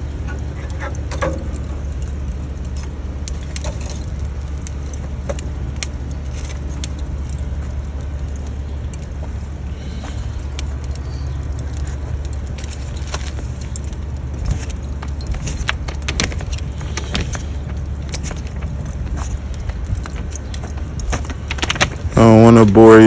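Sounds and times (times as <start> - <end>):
fire crackling: 0.0 - 23.0
low fire rumble: 0.0 - 23.0.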